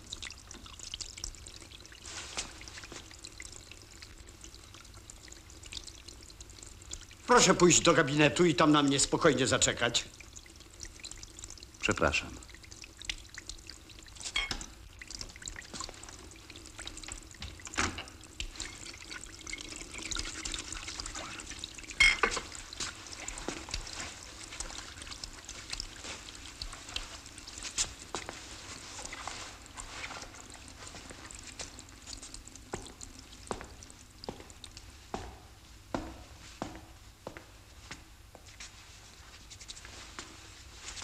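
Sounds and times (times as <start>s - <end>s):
tap water running into sink: 0.0s - 36.9s.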